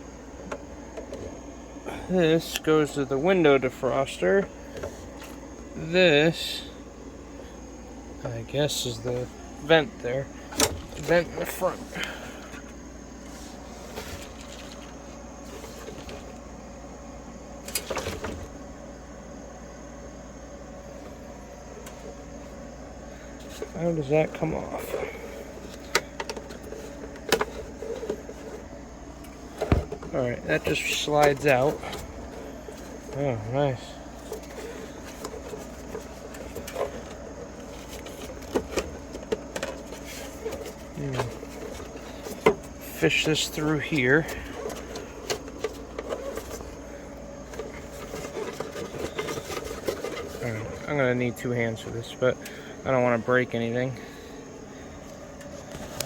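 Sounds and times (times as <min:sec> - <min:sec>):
background hum: 0:00.0 - 0:56.0.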